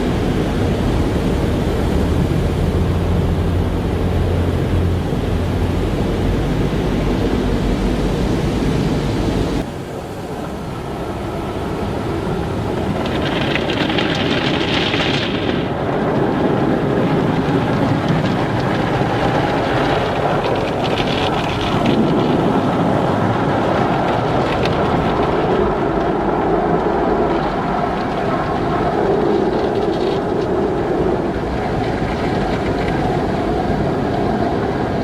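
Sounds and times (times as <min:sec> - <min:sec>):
car wash water and machinery: 0:00.0 - 0:35.0.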